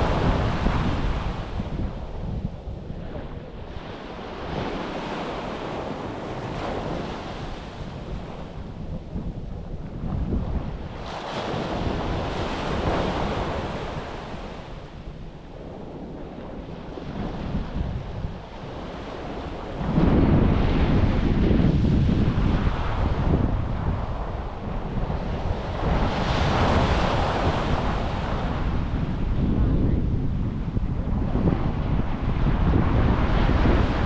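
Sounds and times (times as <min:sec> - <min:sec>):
waves washing onto beach: 0:00.0 - 0:29.4
wind buffeting microphone: 0:00.0 - 0:34.0.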